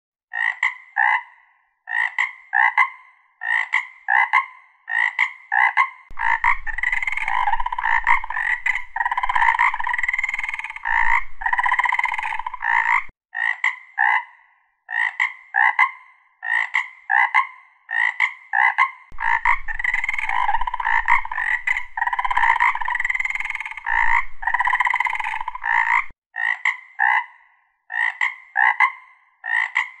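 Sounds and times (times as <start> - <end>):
frogs croaking: 0.3 - 30.0.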